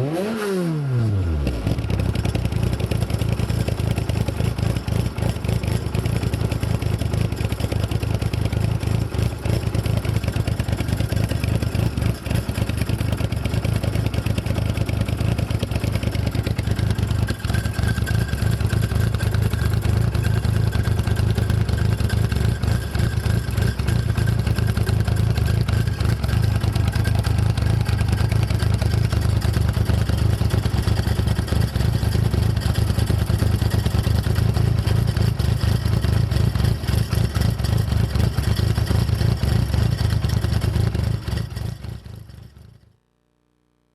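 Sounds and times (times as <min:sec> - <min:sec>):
car engine running: 0:01.2 - 0:42.8
rattling exhaust: 0:01.4 - 0:42.8.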